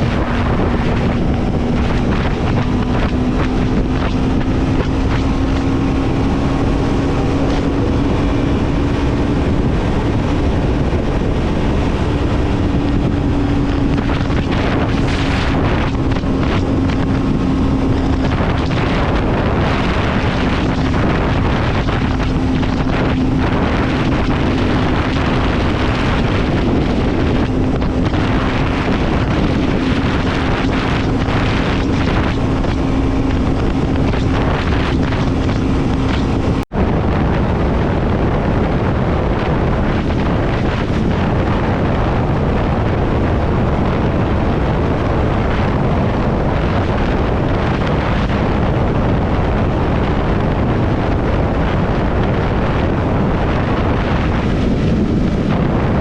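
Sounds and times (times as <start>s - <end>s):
motorcycle engine cruising: 0.0s - 56.0s
wind buffeting microphone: 0.0s - 56.0s.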